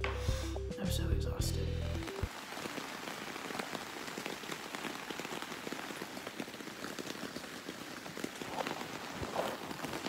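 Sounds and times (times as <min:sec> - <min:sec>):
heavy rain: 0:01.8 - 0:10.0.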